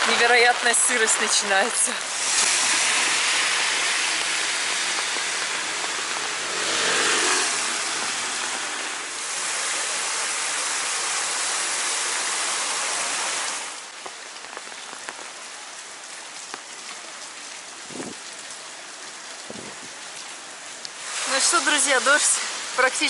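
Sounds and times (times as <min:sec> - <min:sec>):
raindrops tapping close by: 0:00.0 - 0:09.8, 0:13.5 - 0:23.0
heavy rain on wet street: 0:00.0 - 0:23.0.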